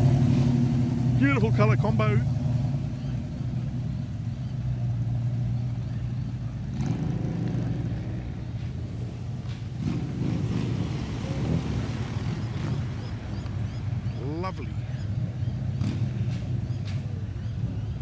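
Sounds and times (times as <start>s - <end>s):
car engine running at low revs: 0.0s - 18.0s
engine revving: 0.0s - 18.0s.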